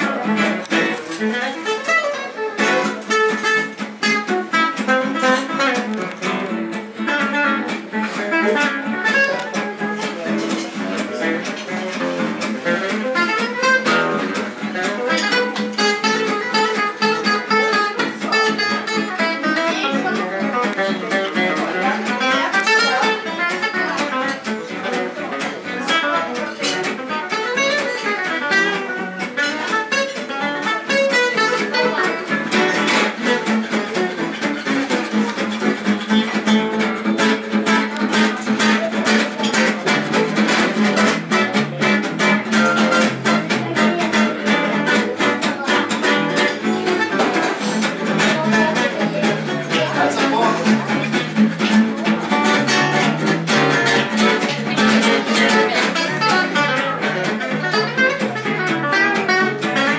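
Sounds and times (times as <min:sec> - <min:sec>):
acoustic guitar lead lines: 0:00.0 - 0:59.9
rhythm guitar strumming: 0:00.0 - 0:59.9.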